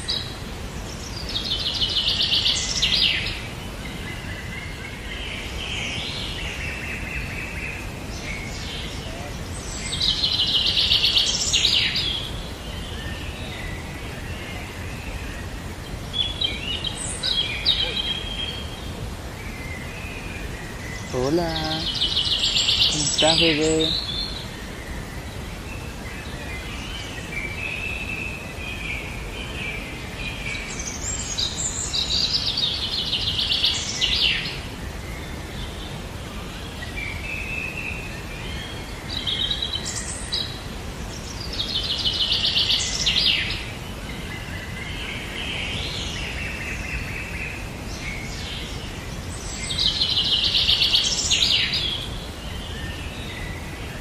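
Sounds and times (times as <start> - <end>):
faint hiss: 0.0 - 54.0
songbird singing: 0.0 - 54.0.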